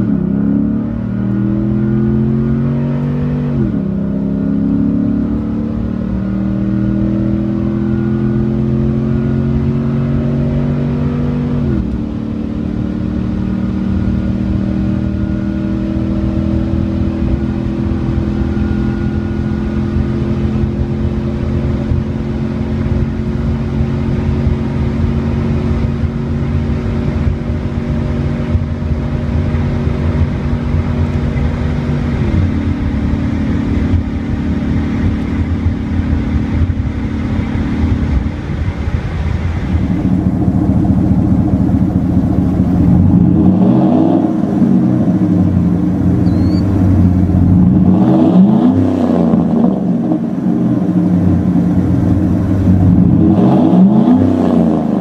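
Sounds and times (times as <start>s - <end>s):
engine running steadily: 0.0s - 55.0s
exhaust revving: 0.0s - 55.0s.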